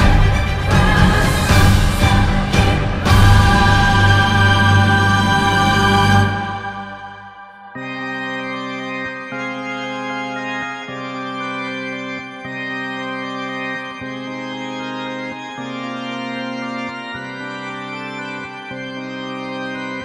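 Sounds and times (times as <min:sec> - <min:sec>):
background music with sustained chords: 0:00.0 - 0:20.0.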